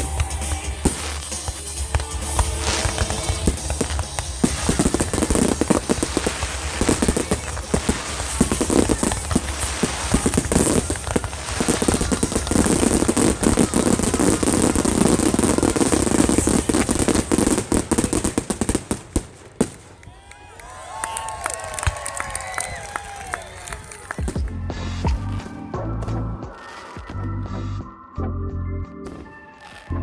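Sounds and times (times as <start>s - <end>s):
fireworks bursting and crackling: 0.0s - 27.2s, 29.1s - 30.0s.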